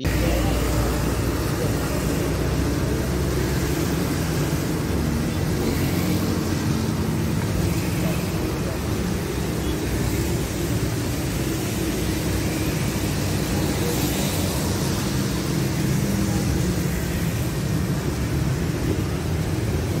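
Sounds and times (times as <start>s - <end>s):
low traffic rumble: 0.0s - 20.0s
motorcycles and cars passing: 0.0s - 20.0s
tyre hiss on wet road: 0.1s - 20.0s.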